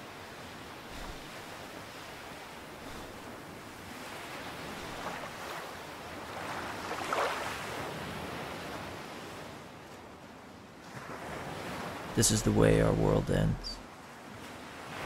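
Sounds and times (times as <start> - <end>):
ocean waves washing onto beach: 0.0 - 15.0.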